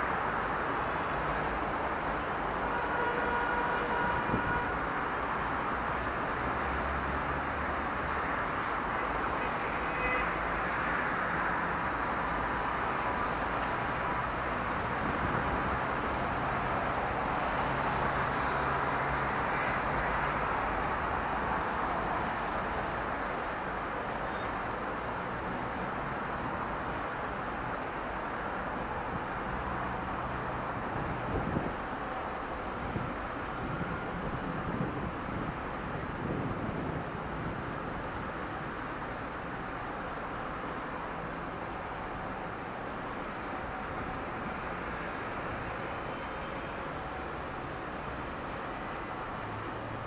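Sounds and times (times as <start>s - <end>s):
street traffic passing: 0.0s - 50.0s.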